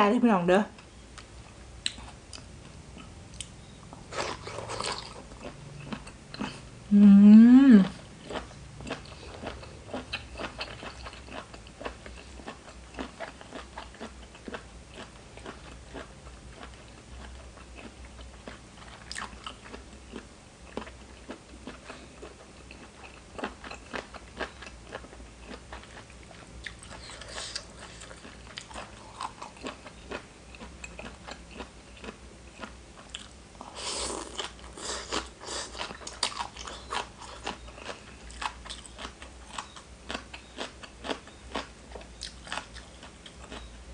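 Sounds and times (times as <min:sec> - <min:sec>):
person chewing and crunching: 0:01.2 - 0:06.8, 0:07.8 - 0:43.8.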